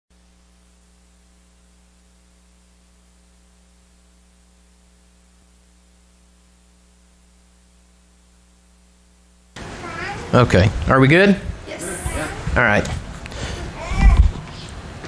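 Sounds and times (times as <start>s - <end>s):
electrical mains hum: 0.1s - 15.0s.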